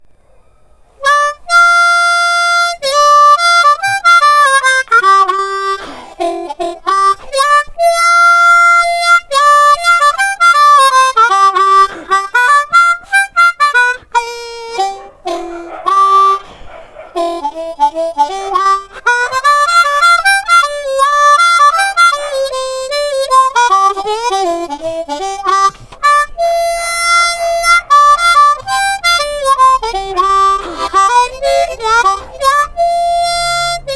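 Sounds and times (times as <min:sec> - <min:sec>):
harmonica playing a melody: 0:01.0 - 0:33.9.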